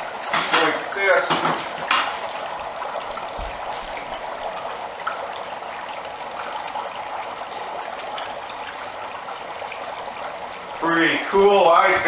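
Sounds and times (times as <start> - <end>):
dry ice bubbling in water: 0.0 - 12.0.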